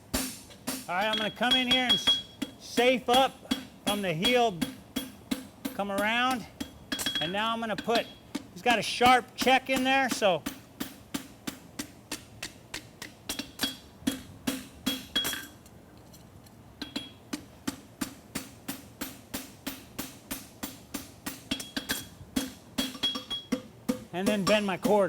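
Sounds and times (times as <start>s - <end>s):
hammer striking horseshoe on anvil: 0.1s - 15.7s, 16.8s - 25.0s.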